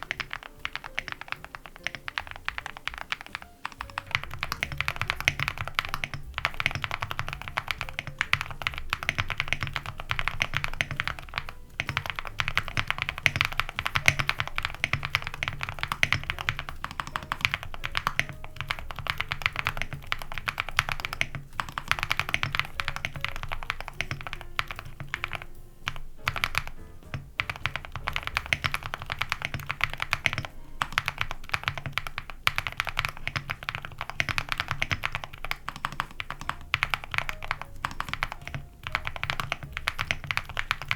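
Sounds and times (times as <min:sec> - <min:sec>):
background music: 0:00.0 - 0:40.9
fast mechanical keyboard typing: 0:00.0 - 0:40.9.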